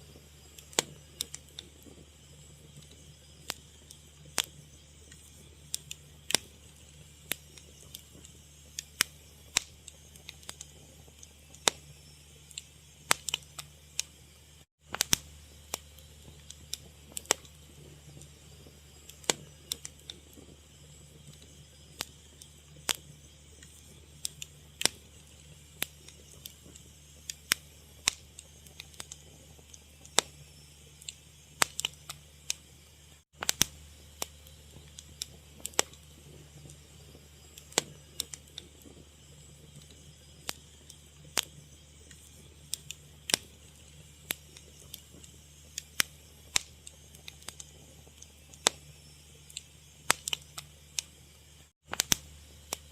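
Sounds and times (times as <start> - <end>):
fire crackling: 0.0 - 52.9
low steady hum: 0.0 - 52.9.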